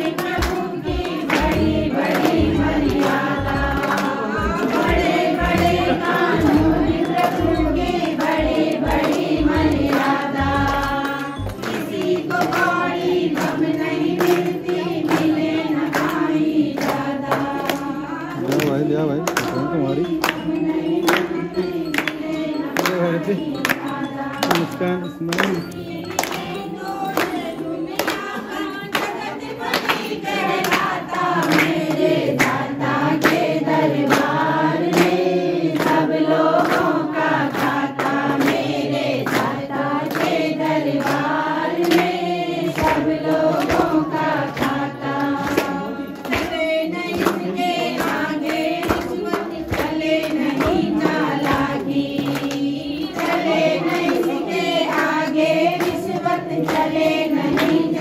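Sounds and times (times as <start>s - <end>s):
group singing in unison: 0.0s - 58.0s
hands clapping: 0.0s - 58.0s.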